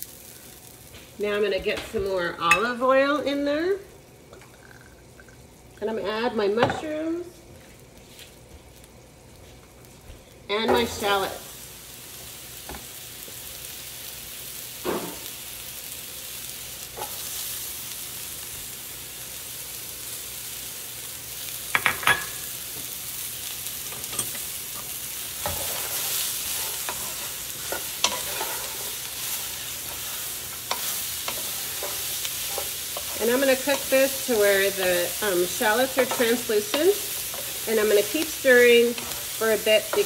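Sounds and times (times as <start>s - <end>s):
vegetables sizzling in oil: 0.0s - 40.0s.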